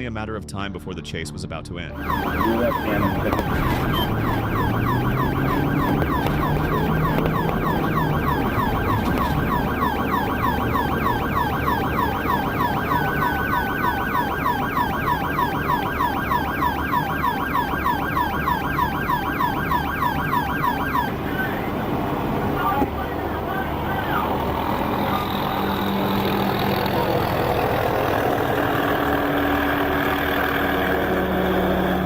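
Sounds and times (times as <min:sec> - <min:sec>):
police siren yelping: 0:01.9 - 0:32.0
road and engine noise: 0:01.9 - 0:32.0.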